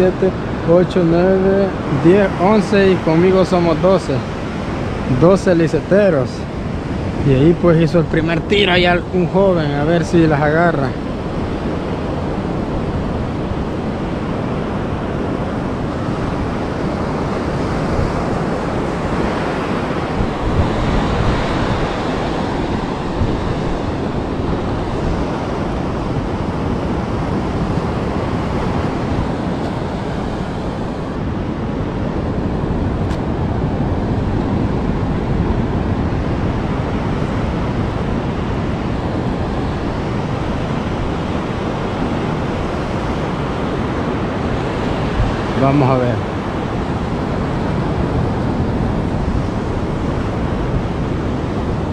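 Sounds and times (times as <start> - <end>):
ocean surf breaking: 0.0 - 51.9
wind buffeting microphone: 0.0 - 51.9.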